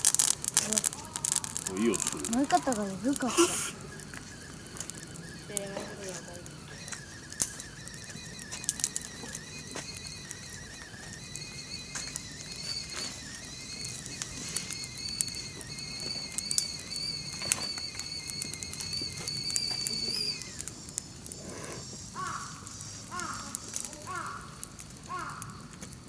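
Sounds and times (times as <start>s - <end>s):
campfire crackling: 0.0s - 26.0s
steady high whistle: 1.7s - 23.1s.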